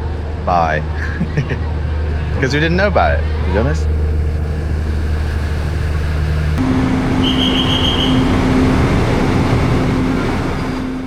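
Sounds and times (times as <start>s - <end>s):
steady mid-pitched tone: 0.0s - 11.0s
train rumble and hum: 0.0s - 11.0s.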